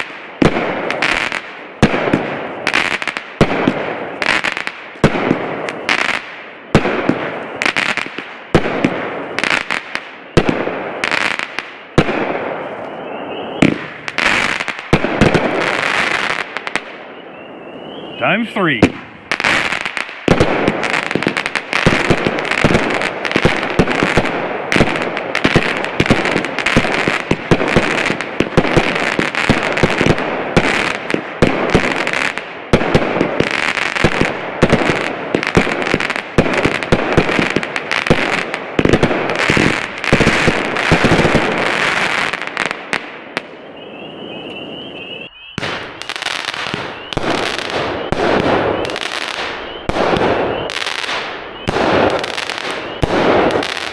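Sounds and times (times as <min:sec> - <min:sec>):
firework crackling: 0:00.0 - 0:17.0, 0:18.2 - 0:44.6, 0:45.2 - 0:53.9
fireworks shots and bursts: 0:00.0 - 0:53.9.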